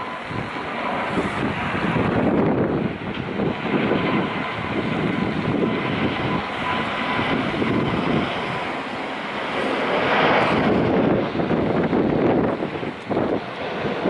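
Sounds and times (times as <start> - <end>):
jet engines rushing with whine: 0.0 - 14.0
wind buffeting microphone: 0.0 - 14.0.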